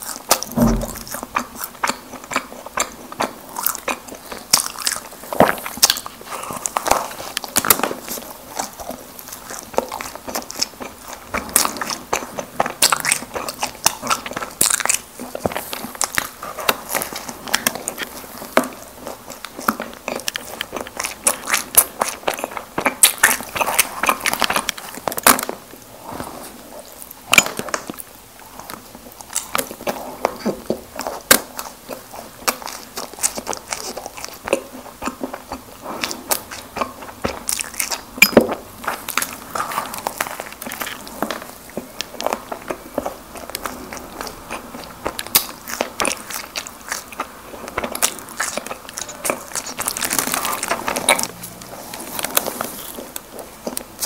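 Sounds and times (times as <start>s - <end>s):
biting and chewing food: 0.0s - 54.0s.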